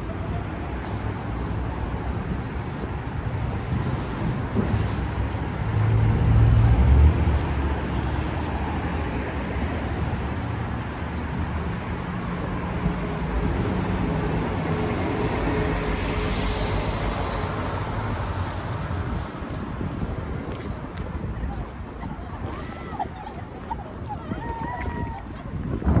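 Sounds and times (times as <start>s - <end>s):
large vehicle engine rumble: 0.0s - 26.0s
passing cars and tyre noise: 0.0s - 26.0s.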